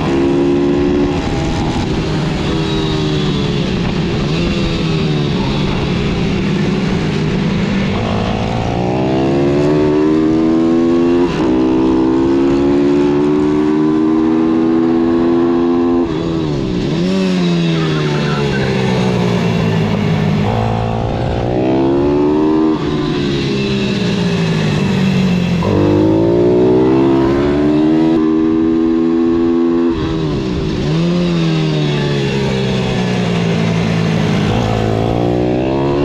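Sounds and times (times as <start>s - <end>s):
motorbike engine revving: 0.0s - 36.0s.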